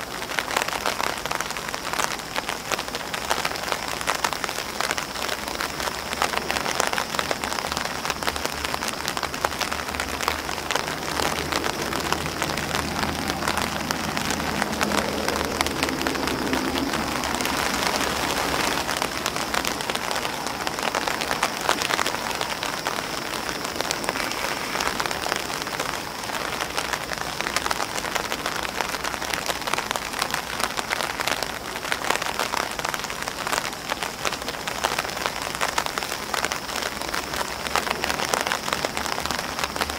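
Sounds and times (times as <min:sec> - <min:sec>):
rain on an umbrella and grass: 0:00.0 - 0:39.9.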